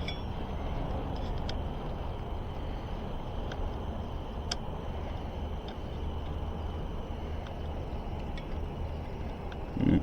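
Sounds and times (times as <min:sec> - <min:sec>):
faint high-pitched hum: 0:00.0 - 0:10.0
low outdoor rumble: 0:00.0 - 0:10.0.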